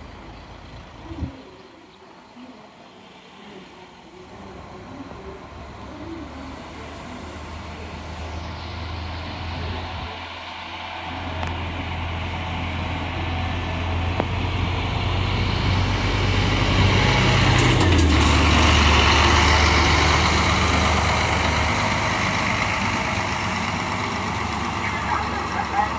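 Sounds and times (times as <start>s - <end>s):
diesel engine running: 0.0s - 2.3s, 3.2s - 25.9s.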